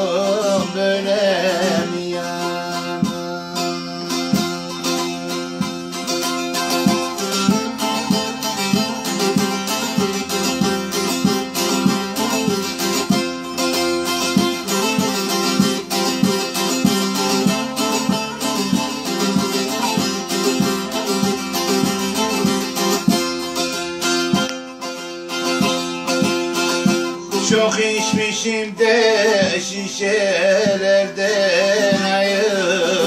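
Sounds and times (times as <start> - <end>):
long-necked lute picked rapidly: 0.0 - 33.0.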